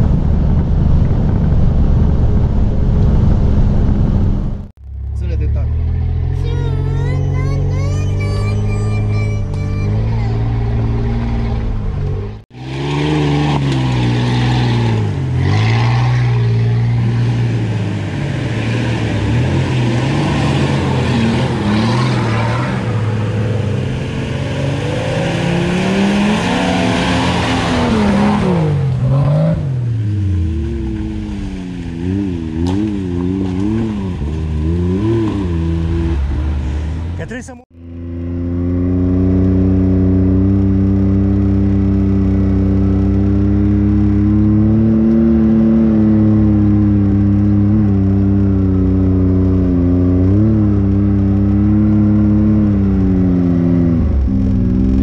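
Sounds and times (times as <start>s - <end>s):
off-road engines revving: 4.9s - 55.0s.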